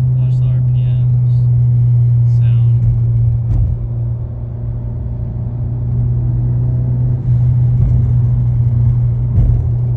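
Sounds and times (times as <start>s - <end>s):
car engine rattling at mid revs: 0.0s - 9.9s.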